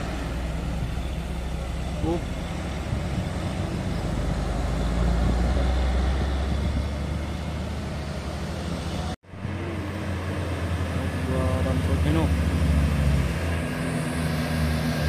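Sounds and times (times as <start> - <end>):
diesel truck engines rumbling: 0.0 - 15.0.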